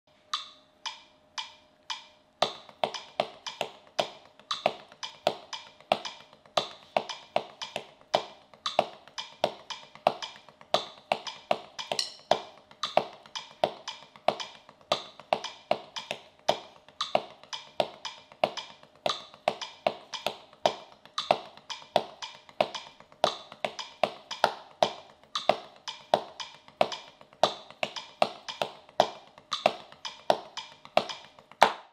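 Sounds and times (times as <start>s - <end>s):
drumsticks on practice pad: 0.1s - 31.9s.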